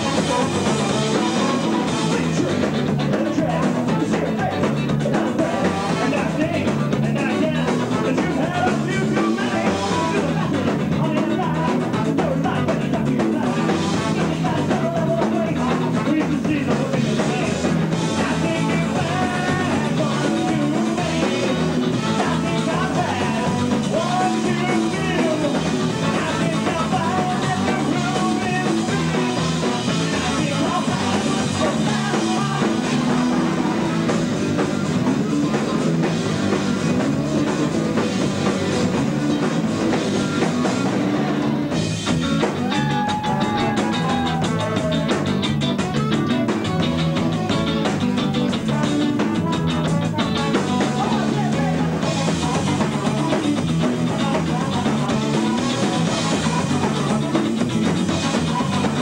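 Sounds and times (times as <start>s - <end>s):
person singing: 0.0s - 59.0s
ska-punk band playing live: 0.0s - 59.0s.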